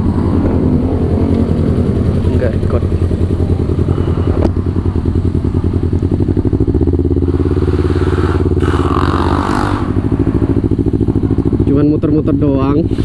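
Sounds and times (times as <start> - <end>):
rush of noise: 0.0 - 11.6
motorcycle engine at low revs: 0.0 - 13.0.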